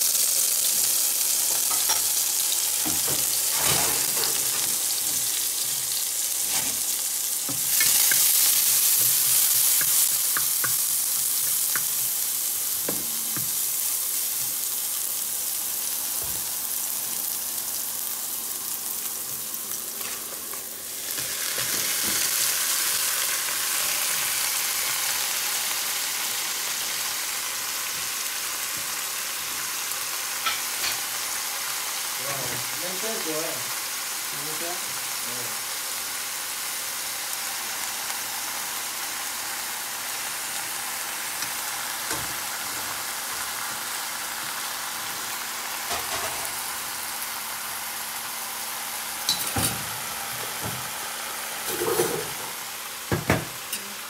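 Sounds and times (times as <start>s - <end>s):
vegetables sizzling in a wok: 0.0s - 54.0s.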